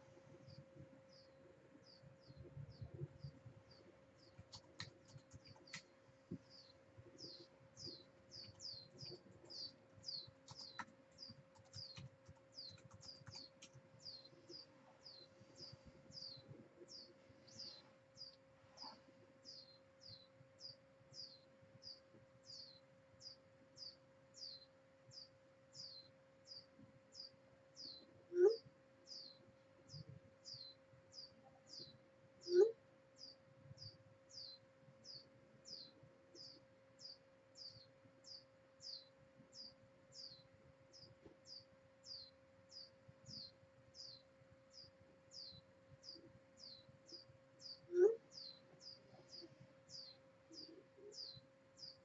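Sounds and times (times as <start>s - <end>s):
faint steady hum: 0.0s - 52.0s
small bird chirping: 0.0s - 52.0s.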